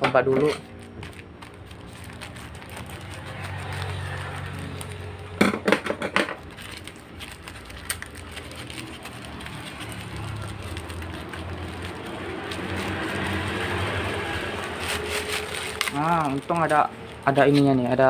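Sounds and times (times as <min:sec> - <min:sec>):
plastic packaging crackling: 0:00.4 - 0:18.0.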